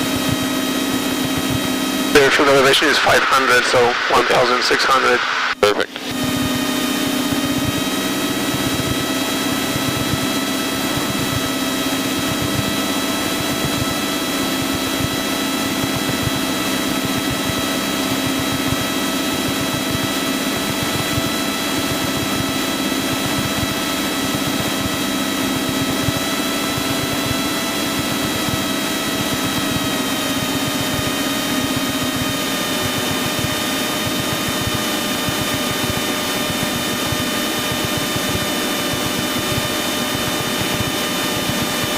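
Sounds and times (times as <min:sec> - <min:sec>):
airplane engine and propeller droning: 0:00.0 - 0:41.9.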